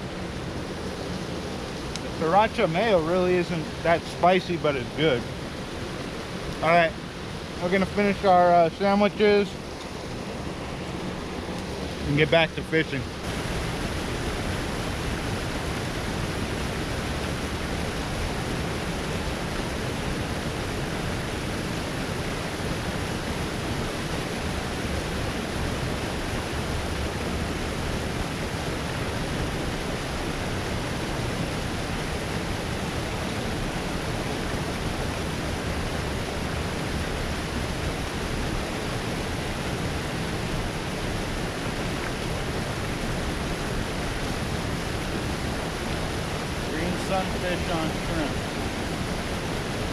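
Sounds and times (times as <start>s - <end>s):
water rushing from spillway: 0.0s - 49.9s.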